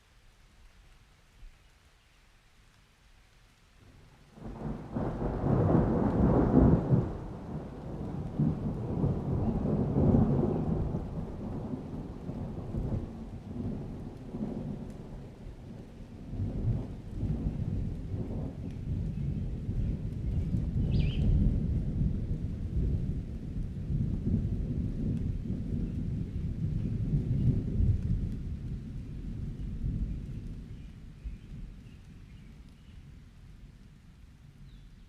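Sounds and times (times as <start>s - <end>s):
rain falling: 0.0s - 35.0s
thunder rumbling: 4.3s - 32.8s.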